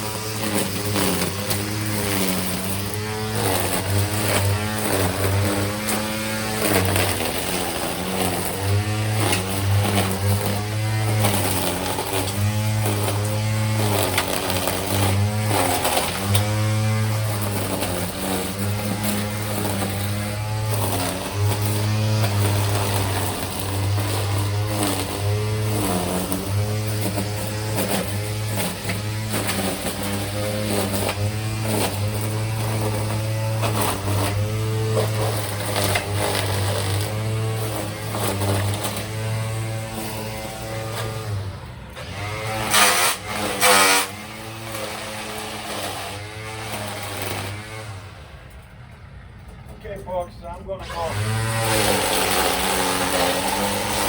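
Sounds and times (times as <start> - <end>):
small motor speeding up and slowing: 0.0 - 48.4, 50.8 - 54.0.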